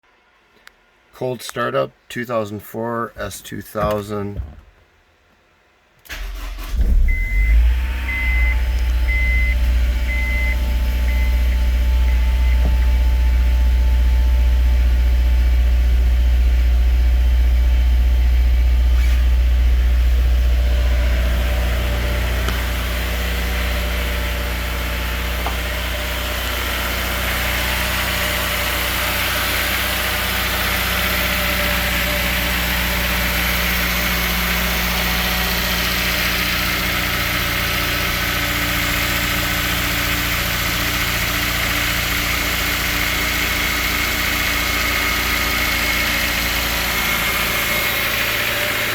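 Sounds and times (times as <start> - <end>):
car engine starting and idling: 6.0 - 48.9.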